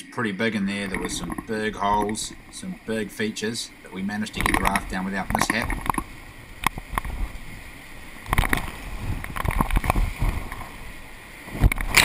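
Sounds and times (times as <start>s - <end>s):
whitewater rushing: 0.4s - 12.0s
waves slapping against raft: 0.6s - 12.0s.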